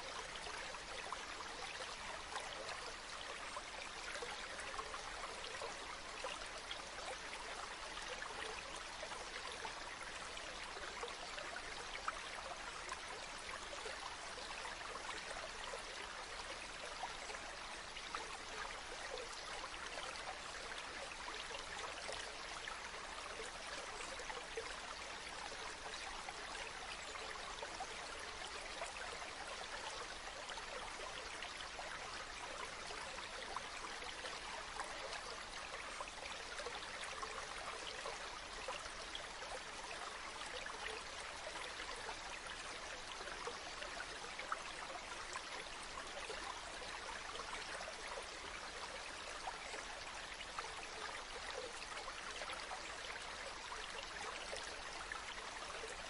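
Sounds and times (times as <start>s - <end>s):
stream running over stones: 0.0s - 56.0s.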